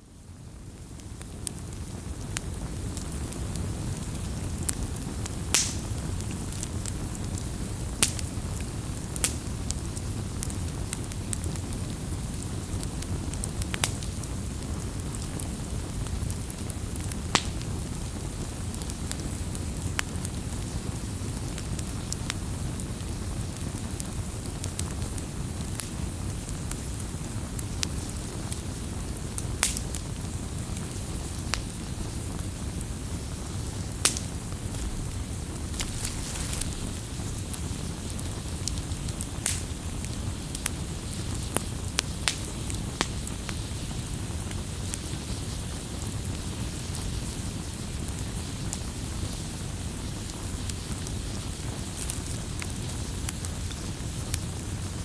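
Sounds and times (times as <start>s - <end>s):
fire crackling and popping: 0.1s - 55.0s
fire rumbling: 0.2s - 55.0s.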